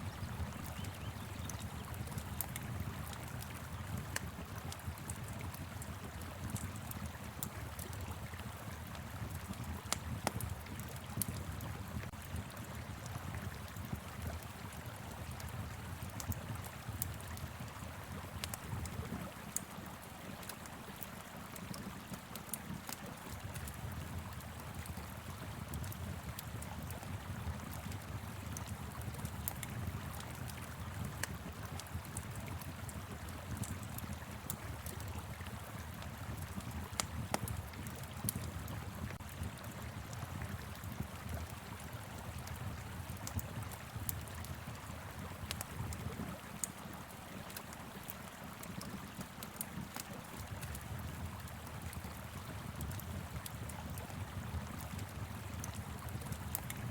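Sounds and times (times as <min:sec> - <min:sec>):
wood fire crackling and popping: 0:00.3 - 0:19.7, 0:20.3 - 0:56.9.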